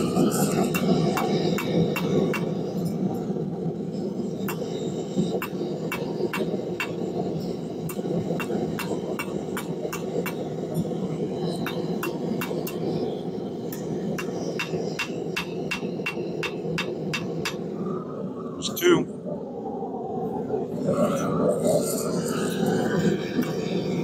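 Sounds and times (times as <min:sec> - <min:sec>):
forge rushing noise: 0:00.0 - 0:24.0.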